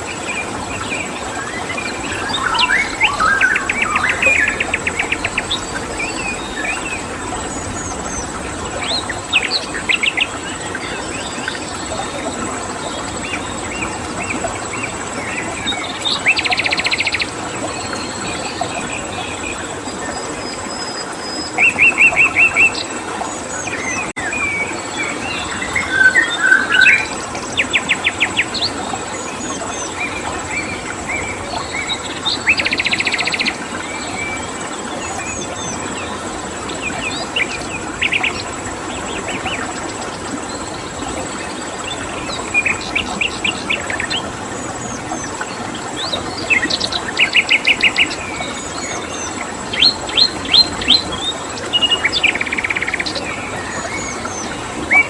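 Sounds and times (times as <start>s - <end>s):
songbirds trilling and chirping: 0.0s - 55.0s
stream rushing: 0.0s - 55.0s.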